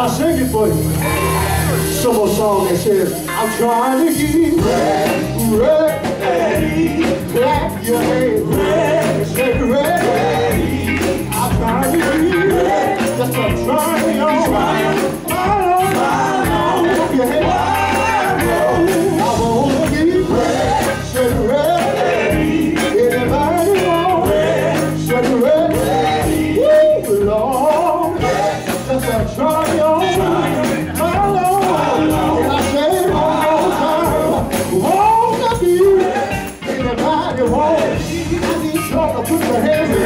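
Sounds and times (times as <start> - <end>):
band with bass drums and keyboard: 0.0 - 40.0
male singers with backing voices: 0.0 - 40.0.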